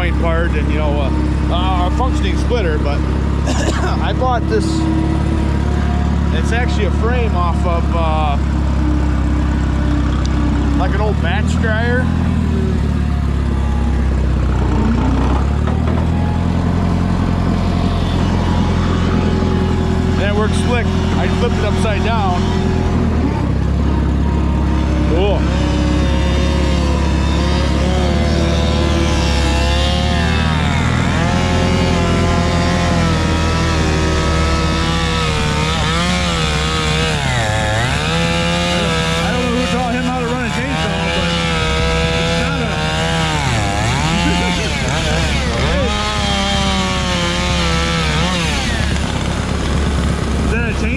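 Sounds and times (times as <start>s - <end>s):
chainsaw running at high revs: 0.0s - 50.9s
tractor engine running: 0.0s - 50.9s.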